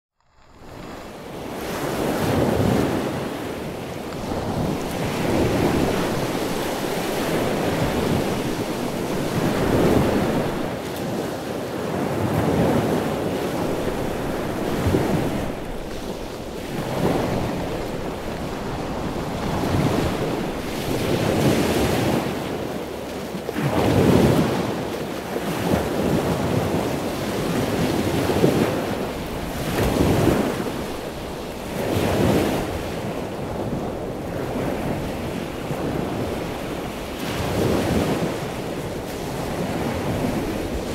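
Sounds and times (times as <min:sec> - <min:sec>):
surf breaking over rocks: 0:00.2 - 0:40.9
wind buffeting microphone: 0:00.5 - 0:40.9.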